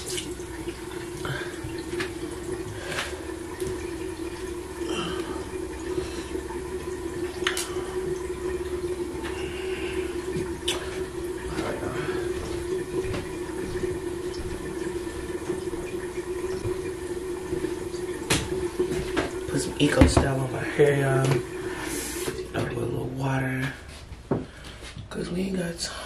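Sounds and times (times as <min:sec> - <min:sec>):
water running from a tap: 0:00.0 - 0:24.8
steady hum: 0:00.0 - 0:26.0.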